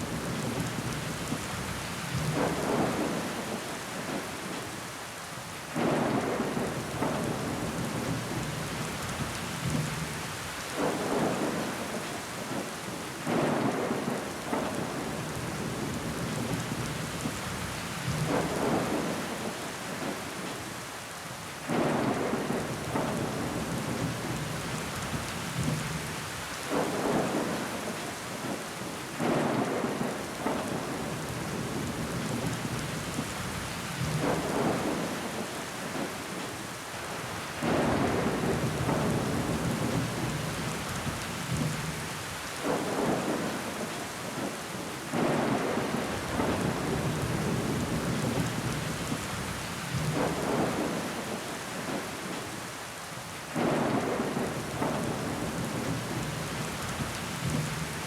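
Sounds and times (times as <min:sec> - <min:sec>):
rain on window glass: 0:00.0 - 0:58.0.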